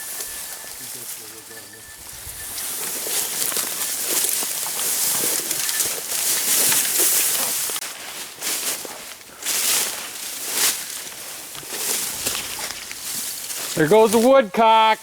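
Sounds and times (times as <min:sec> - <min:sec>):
footsteps through dry leaves: 0:00.0 - 0:14.5
twigs crackling: 0:00.0 - 0:15.0.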